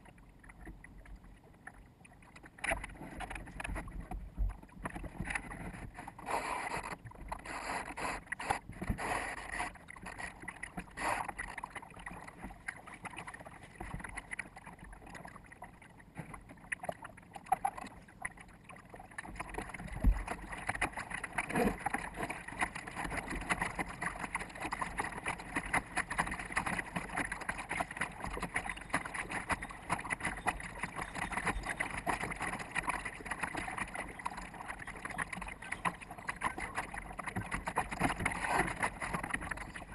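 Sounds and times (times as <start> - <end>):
water splashing along boat hull: 0.0 - 39.9.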